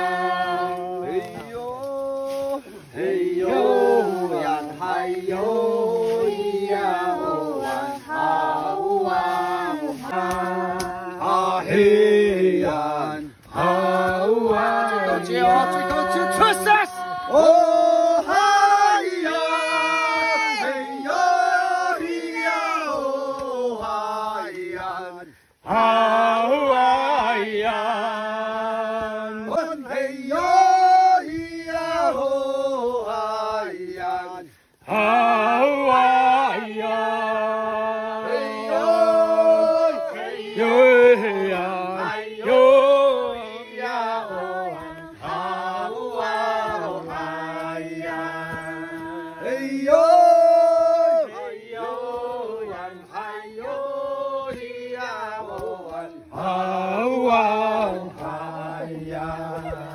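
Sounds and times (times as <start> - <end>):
group of people singing: 0.0 - 59.9.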